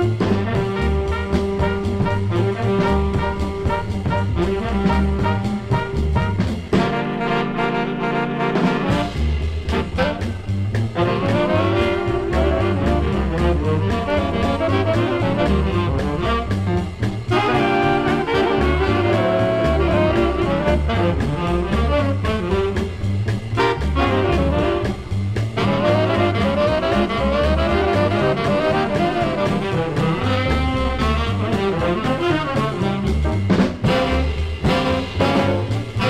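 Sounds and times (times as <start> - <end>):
swing jazz with brass and drums: 0.0 - 36.0.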